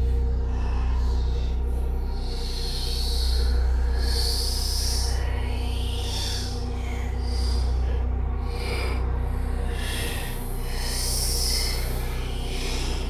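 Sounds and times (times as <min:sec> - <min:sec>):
breathy whispering voices: 0:00.0 - 0:13.0
low steady drone: 0:00.0 - 0:13.0.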